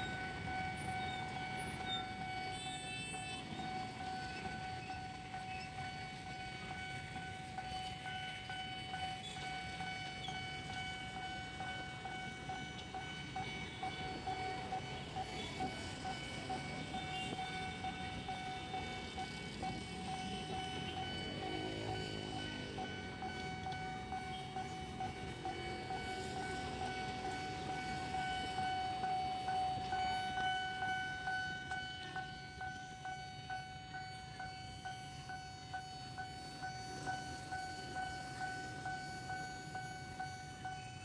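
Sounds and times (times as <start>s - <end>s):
steady high tone: 0.0s - 41.0s
train wheels clacking on rails: 0.0s - 41.0s.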